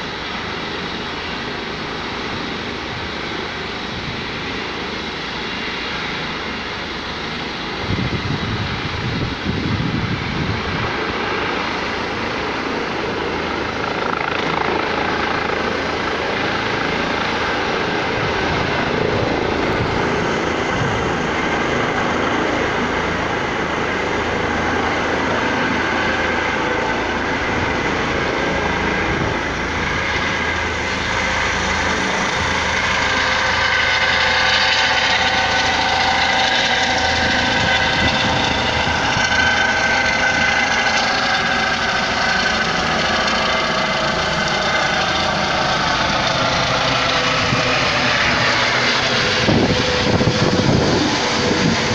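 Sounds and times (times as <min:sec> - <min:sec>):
helicopter rotor: 0:00.0 - 0:51.9
high turbine whine: 0:00.0 - 0:51.9.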